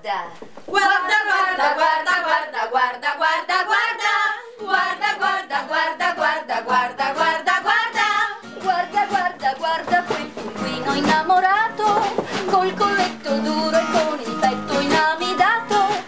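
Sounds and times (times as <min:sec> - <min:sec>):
women singing lively song: 0:00.5 - 0:16.0.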